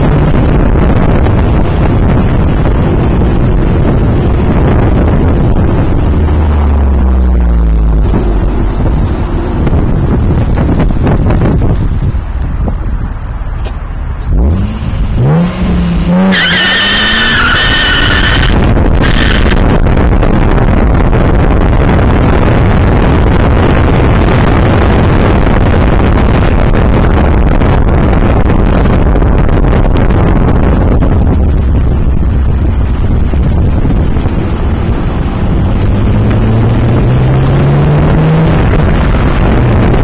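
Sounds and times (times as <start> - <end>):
car engine pulling away: 0.0 - 40.0
wind rushing on microphone: 0.0 - 40.0.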